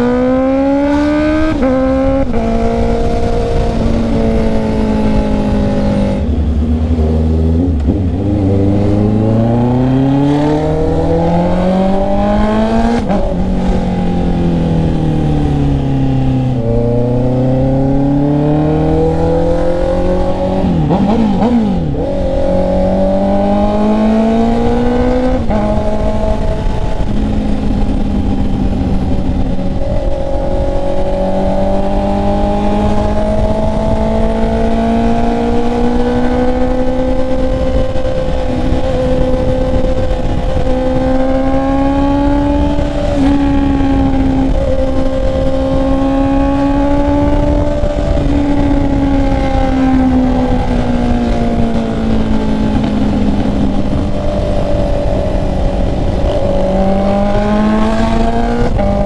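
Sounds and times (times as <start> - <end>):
motorcycle engine revving: 0.0 - 59.0
wind noise: 0.0 - 59.0.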